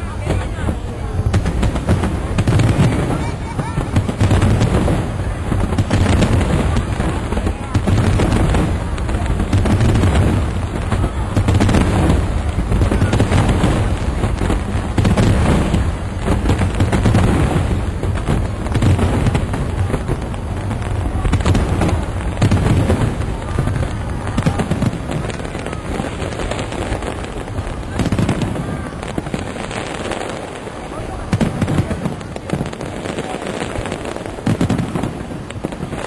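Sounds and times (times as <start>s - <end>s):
fireworks booming and crackling: 0.0s - 36.0s.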